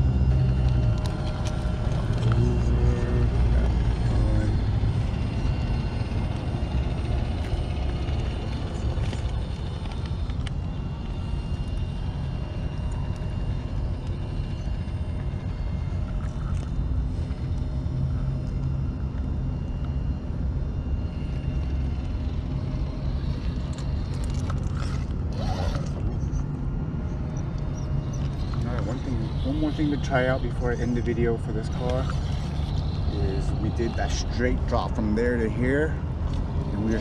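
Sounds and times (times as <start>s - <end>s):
electric motor whine: 0.0s - 37.0s
low rumble: 0.0s - 37.0s.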